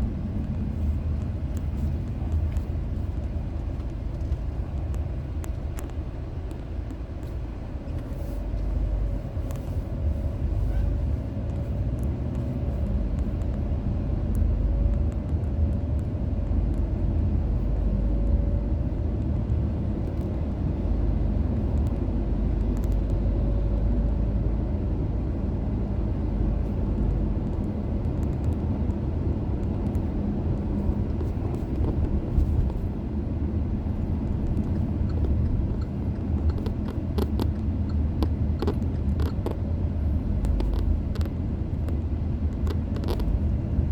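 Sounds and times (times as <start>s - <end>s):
car road and engine rumble: 0.0s - 43.9s.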